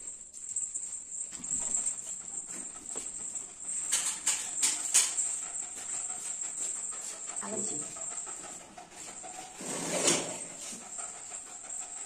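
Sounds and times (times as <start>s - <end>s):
dog moving on tiled floor: 0.0s - 12.0s.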